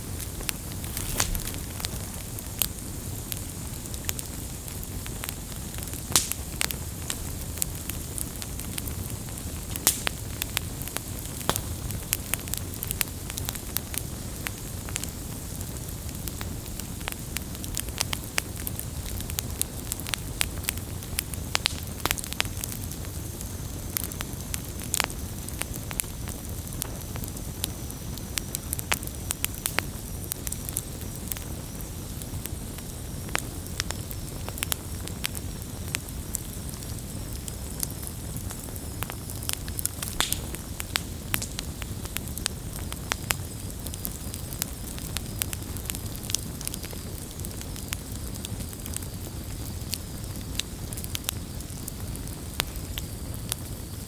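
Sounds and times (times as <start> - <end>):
burning wood popping and crackling: 0.0 - 54.0
low rumble of flames: 0.0 - 54.0.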